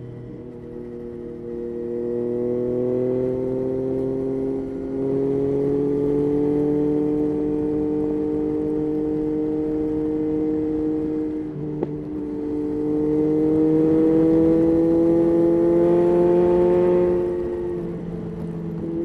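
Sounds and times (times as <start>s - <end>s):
motorcycle engine under throttle: 0.0s - 19.0s.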